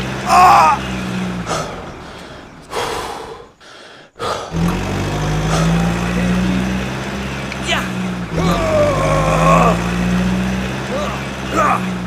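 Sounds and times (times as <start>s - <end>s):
truck engine hum: 0.0s - 12.0s.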